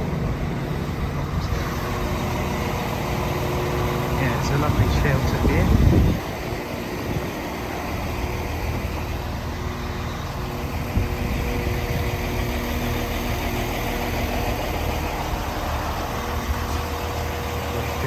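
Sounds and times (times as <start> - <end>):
diesel train engine idling: 0.0 - 18.0.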